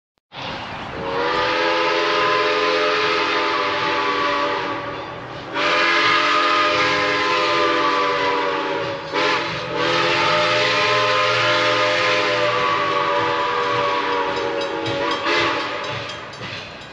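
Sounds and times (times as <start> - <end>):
steam locomotive chime whistle: 0.9 - 16.9.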